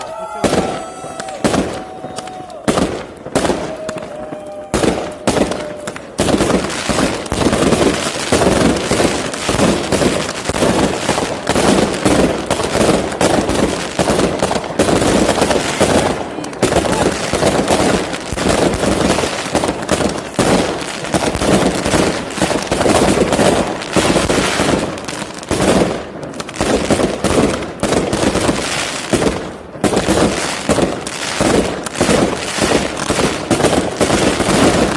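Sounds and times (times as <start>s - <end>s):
crackling firework bursts: 0.0s - 34.9s
fireworks launches and bangs: 0.0s - 34.9s.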